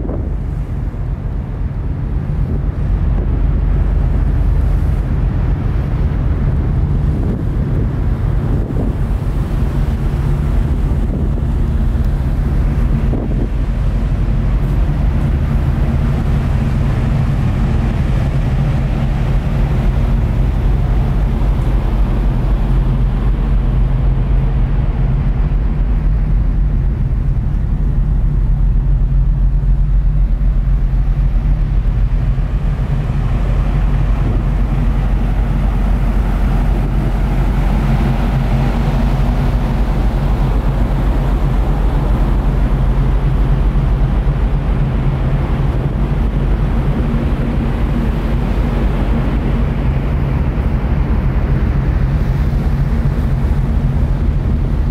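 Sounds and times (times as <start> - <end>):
ferry engines humming: 0.0 - 54.9.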